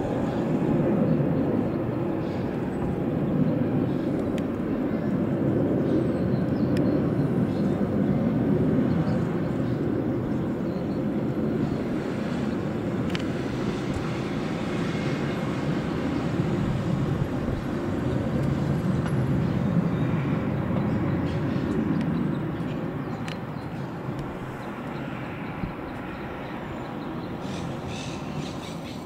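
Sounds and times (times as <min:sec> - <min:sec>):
jet plane flying over: 0:00.0 - 0:29.0.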